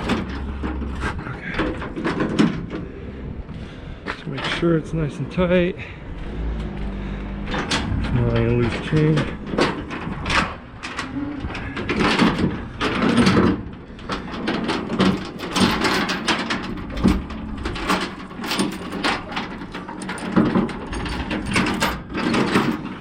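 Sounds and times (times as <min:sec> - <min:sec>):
steel chain clanking and scraping: 0:00.0 - 0:03.2, 0:06.2 - 0:23.0.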